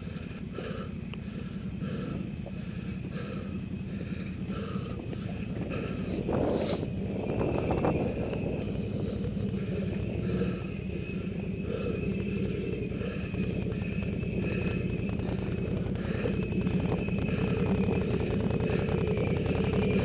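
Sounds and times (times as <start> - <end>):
atv engine running: 0.0 - 20.0
thin high whine: 0.0 - 20.0.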